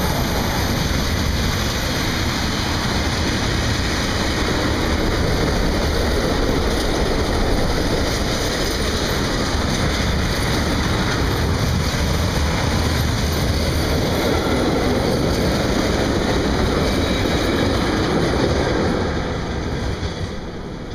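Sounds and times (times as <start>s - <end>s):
freight train wheels rumbling: 0.0s - 20.9s.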